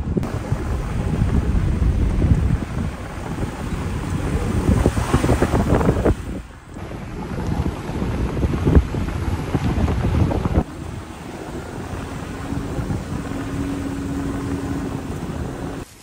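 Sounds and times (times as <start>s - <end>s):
moving vehicle rumble: 0.0s - 16.0s
wind buffeting microphone: 0.0s - 16.0s.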